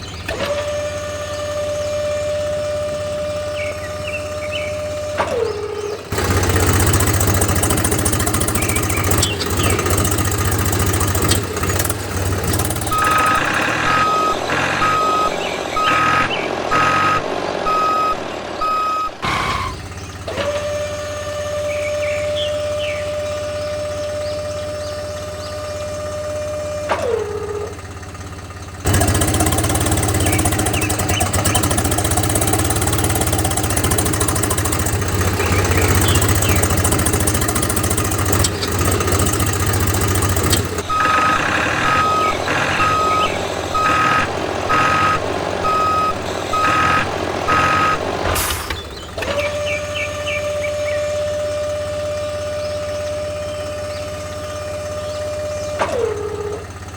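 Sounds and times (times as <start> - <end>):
rumbling motor: 0.0 - 56.9
small motor whining: 0.0 - 56.9
reversing beeper: 0.4 - 27.8, 28.9 - 56.6.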